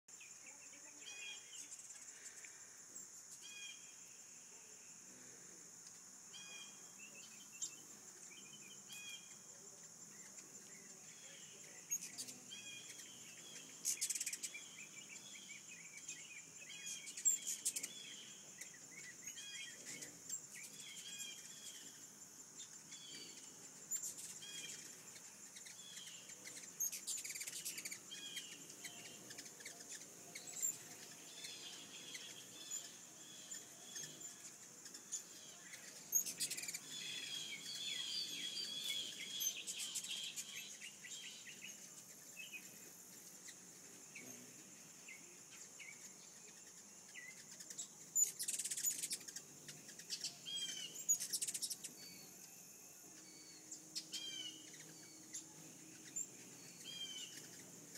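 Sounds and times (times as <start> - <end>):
high-pitched insect drone: 0.2 - 57.9
birds chirping: 5.8 - 57.9.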